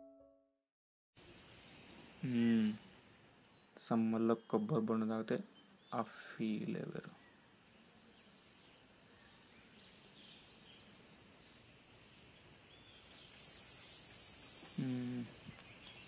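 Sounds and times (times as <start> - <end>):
birds chirping: 1.2 - 16.0.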